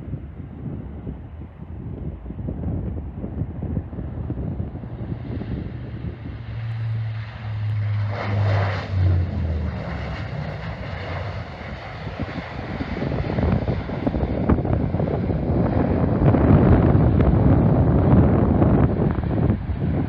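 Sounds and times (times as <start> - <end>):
jet airliner engine hum: 0.0 - 20.0
wind buffeting microphone: 0.0 - 20.0.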